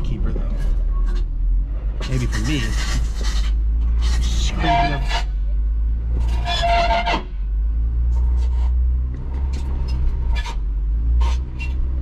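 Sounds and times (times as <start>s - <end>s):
engine low rumble inside cabin: 0.0s - 12.0s.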